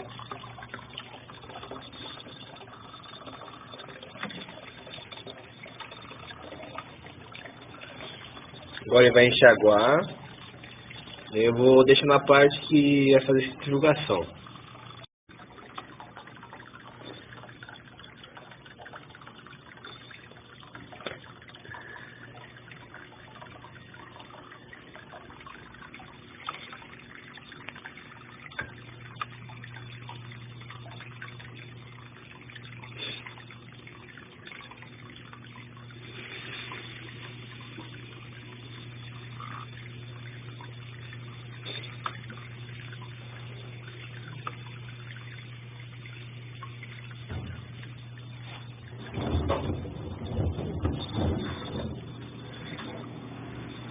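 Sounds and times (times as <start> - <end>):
low machine hum: 0.0 - 53.9
water running into washing machine: 0.0 - 53.9
water splashes: 0.0 - 53.9.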